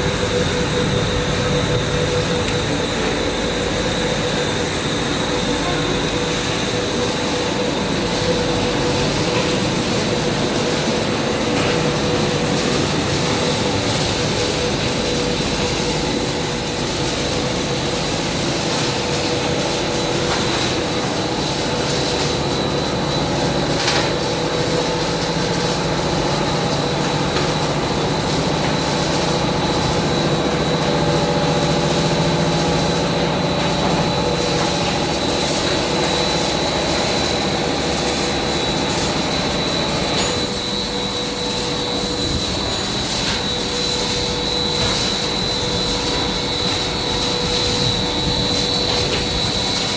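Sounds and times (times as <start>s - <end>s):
machinery drone: 0.0s - 49.9s
steady high whine: 0.0s - 49.9s.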